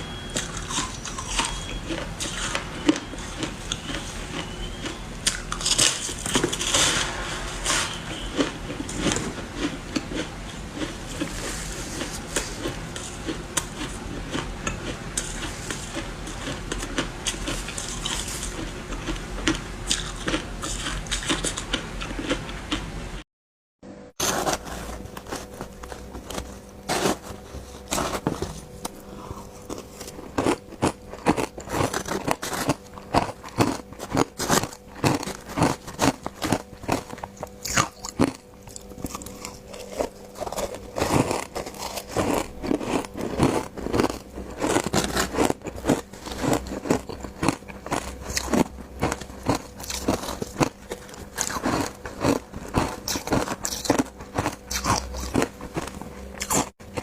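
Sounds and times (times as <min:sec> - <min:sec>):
ice crunching while chewed: 0:00.0 - 0:22.9, 0:24.2 - 0:57.0
faint steady hum: 0:00.0 - 0:23.2, 0:23.9 - 0:57.0.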